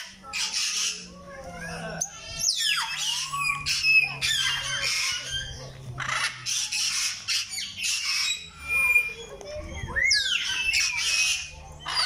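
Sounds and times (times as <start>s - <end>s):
birds squawking harshly: 0.0s - 12.0s.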